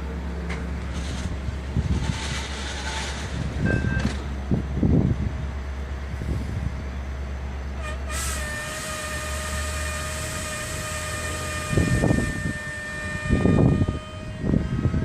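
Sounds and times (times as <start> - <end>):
commuter train getting under way: 0.0 - 15.0.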